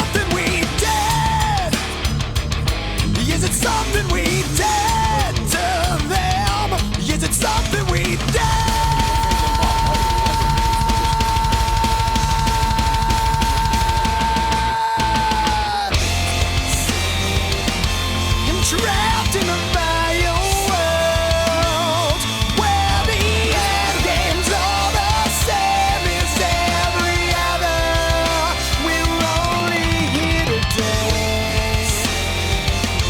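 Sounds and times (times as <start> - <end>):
rock music: 0.0 - 33.0.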